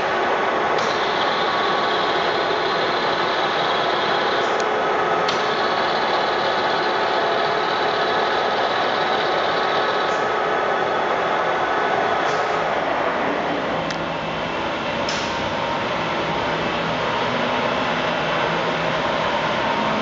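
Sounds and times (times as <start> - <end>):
lathe whirring: 0.0 - 20.0.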